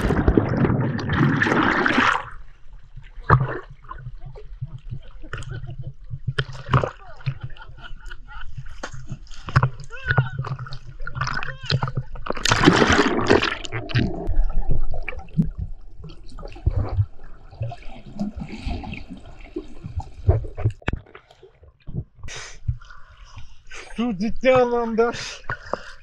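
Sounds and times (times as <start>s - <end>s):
water splashing around swimmer: 0.0s - 21.6s.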